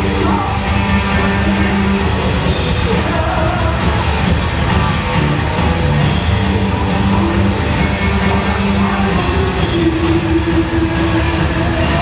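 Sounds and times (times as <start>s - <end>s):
bass guitar: 0.0s - 12.0s
distorted electric guitar: 0.0s - 12.0s.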